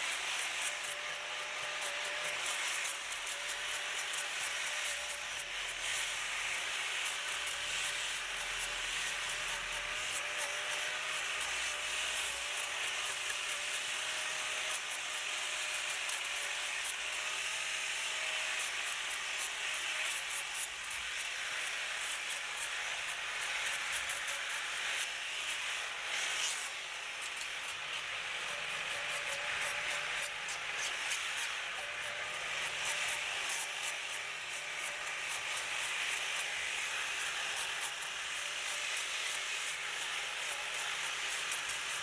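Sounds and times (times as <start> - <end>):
power tool hissing and ticking: 0.0 - 42.0.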